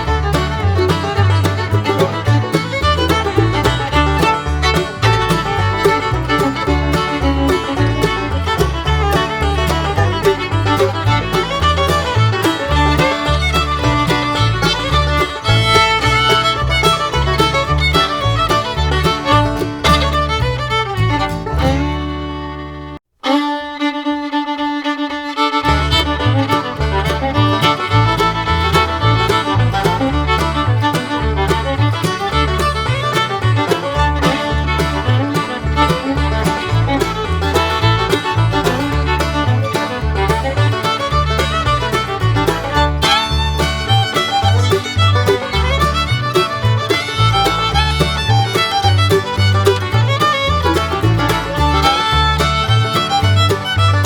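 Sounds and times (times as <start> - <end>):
fiddle music with bass and beat: 0.0 - 54.0.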